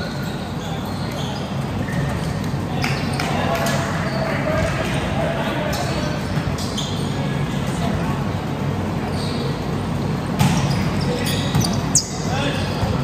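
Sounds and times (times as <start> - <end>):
overlapping chatter: 0.0 - 13.0.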